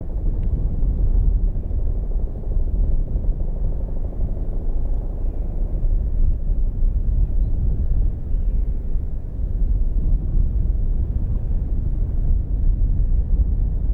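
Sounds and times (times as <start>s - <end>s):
helicopter rotor rumble: 0.0s - 13.9s.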